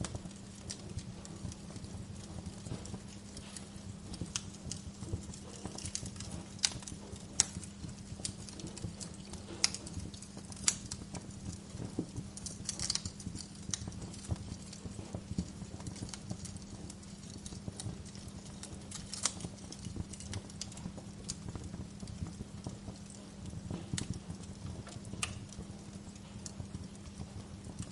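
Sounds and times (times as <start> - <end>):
steady low hum: 0.0 - 27.9
wood fire crackling: 0.0 - 27.9.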